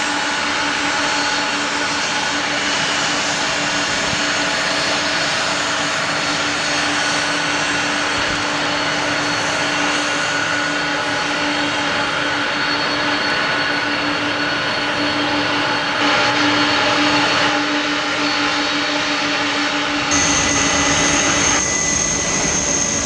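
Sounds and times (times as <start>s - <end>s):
jet engines whining: 0.0s - 23.0s.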